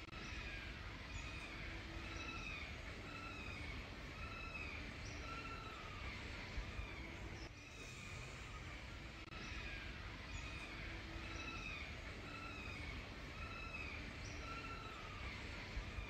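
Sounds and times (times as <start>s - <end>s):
bird calling: 0.0s - 16.0s
low outdoor rumble: 0.0s - 16.0s.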